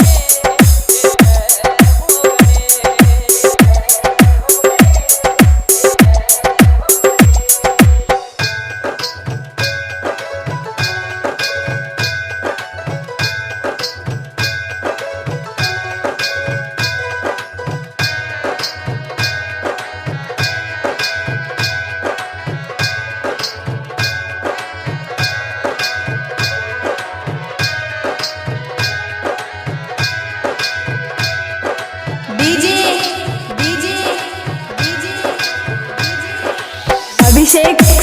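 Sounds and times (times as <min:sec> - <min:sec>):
hand drums over heavy bass: 0:00.0 - 0:38.0.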